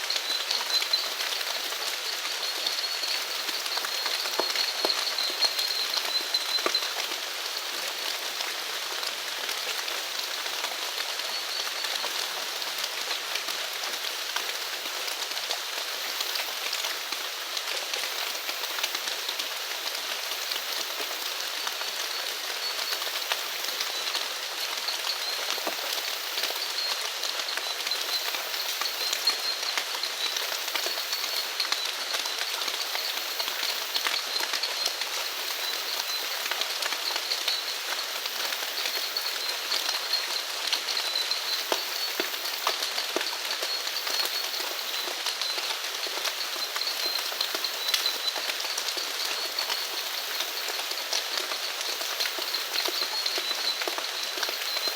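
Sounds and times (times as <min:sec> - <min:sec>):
raindrops ticking on surfaces: 0:00.0 - 0:54.9
steady rain falling: 0:00.0 - 0:54.9.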